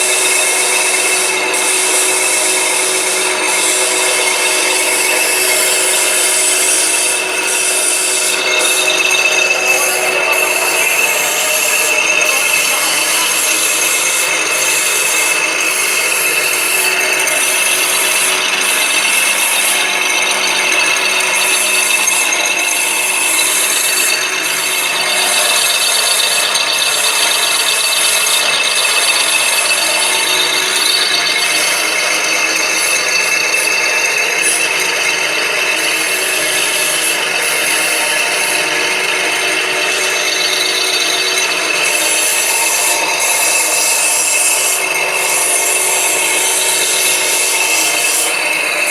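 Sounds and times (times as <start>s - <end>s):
pipe bending machine running: 0.0s - 48.9s.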